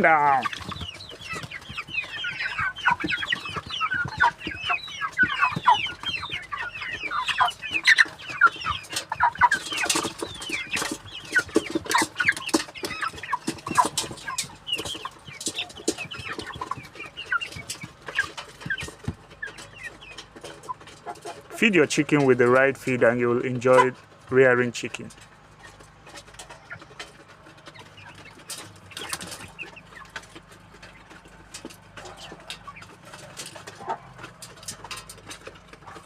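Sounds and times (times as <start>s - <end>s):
beaks pecking at feed: 0.0s - 36.0s
chickens calling: 0.0s - 36.0s.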